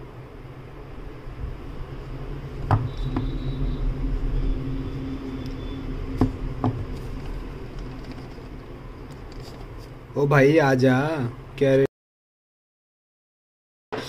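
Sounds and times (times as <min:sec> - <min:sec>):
steady low rumble: 0:00.0 - 0:11.8
faint hum: 0:00.0 - 0:11.9.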